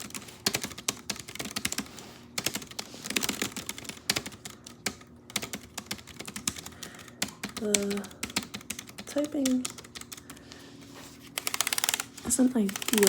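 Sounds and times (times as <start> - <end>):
fast typing key clicks: 0.0 - 10.4, 11.4 - 13.0.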